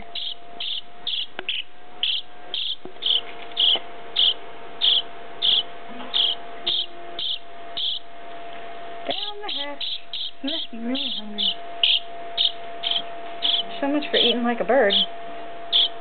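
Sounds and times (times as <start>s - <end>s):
nestling bird cheeping: 0.0s - 8.1s, 9.1s - 15.1s, 15.7s - 16.0s.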